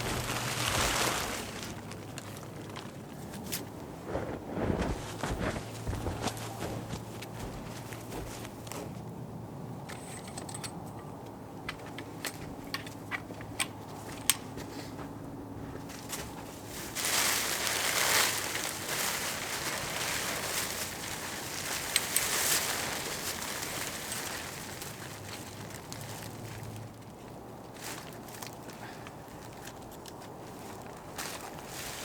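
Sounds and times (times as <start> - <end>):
tent rustling and crunching in snow: 0.0 - 9.0, 14.6 - 32.0.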